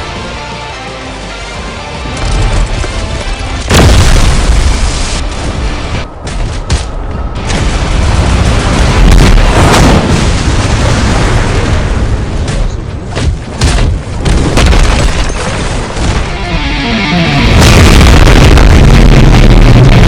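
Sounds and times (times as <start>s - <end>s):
loud dense booming noise: 3.6s - 20.0s.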